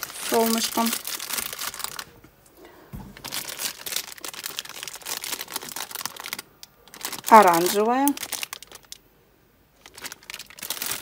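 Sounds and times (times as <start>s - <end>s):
plastic bags crinkling: 0.0s - 2.3s, 2.9s - 9.1s, 9.7s - 11.0s.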